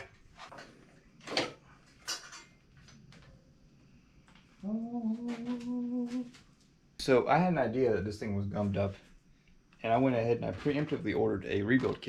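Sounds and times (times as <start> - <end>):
steady humming tone: 0.0 - 11.7.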